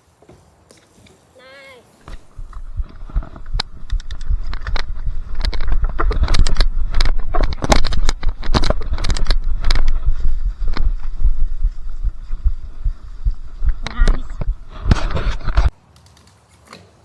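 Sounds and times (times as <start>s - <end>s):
bicycle knocking over wooden planks: 0.1s - 1.2s, 2.0s - 17.0s
low rumble: 2.1s - 15.7s.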